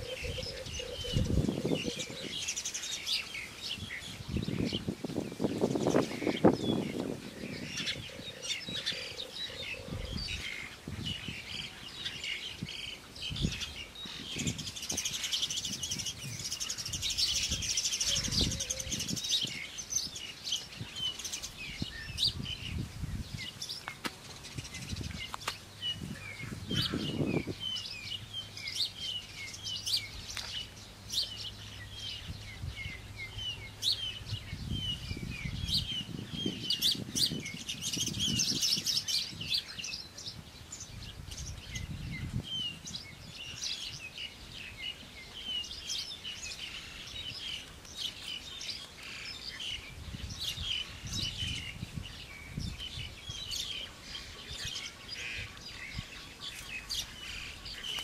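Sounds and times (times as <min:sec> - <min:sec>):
wild birds chirping: 0:00.0 - 0:58.0.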